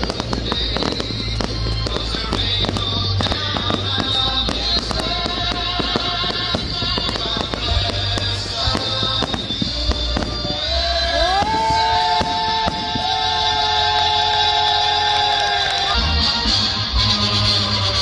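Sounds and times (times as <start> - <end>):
fireworks bangs and crackles: 0.0 - 18.0
music: 0.0 - 18.0.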